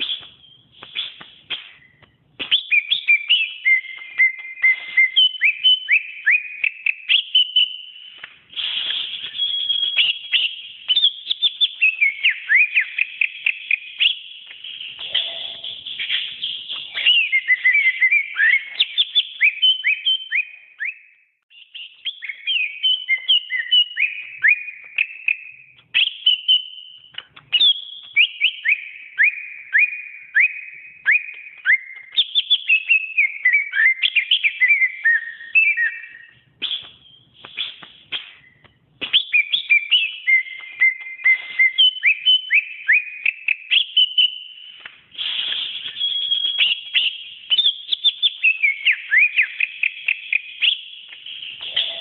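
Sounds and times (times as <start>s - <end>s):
bird singing whistled notes: 0.0s - 52.0s.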